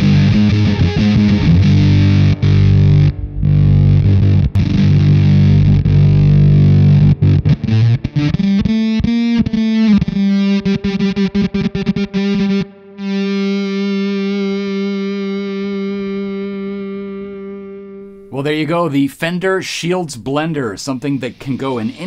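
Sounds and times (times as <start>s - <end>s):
fuzzed electric guitar: 0.0s - 18.4s.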